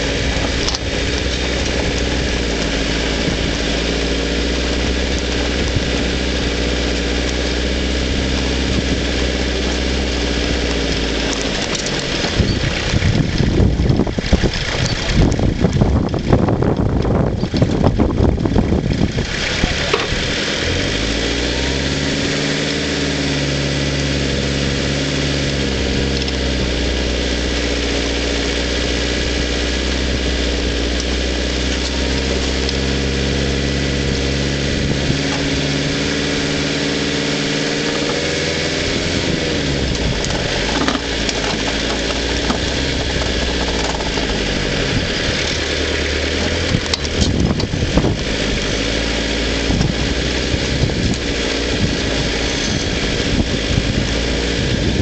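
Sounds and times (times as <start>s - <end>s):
vehicle engine running off-road: 0.0s - 55.0s.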